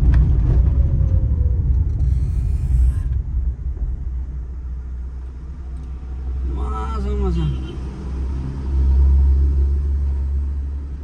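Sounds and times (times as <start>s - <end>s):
road vehicle rumbling: 0.0s - 11.0s.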